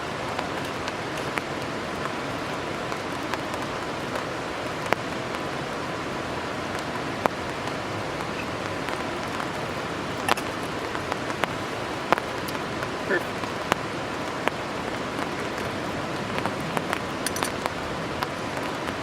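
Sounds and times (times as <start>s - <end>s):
raindrops striking close by: 0.0s - 19.0s
steady rain hiss: 0.0s - 19.0s.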